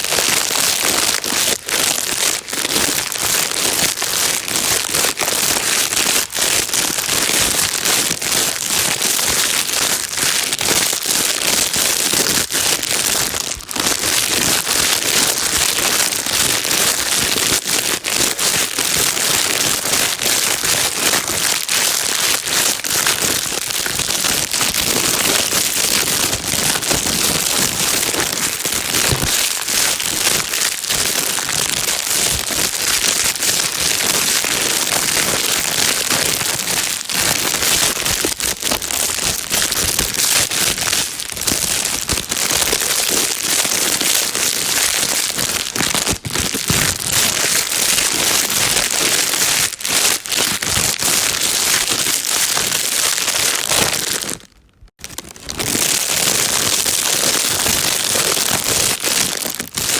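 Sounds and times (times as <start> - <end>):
plastic bag crumpling: 0.0 - 59.9.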